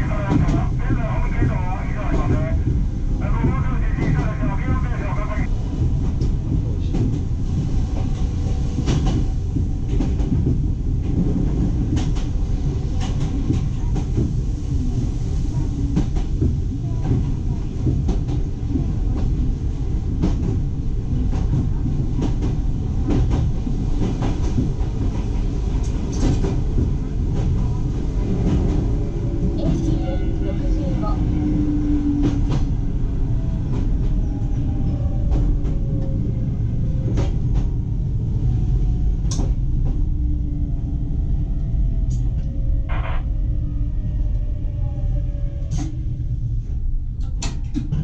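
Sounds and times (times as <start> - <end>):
train rumbling: 0.0 - 48.0.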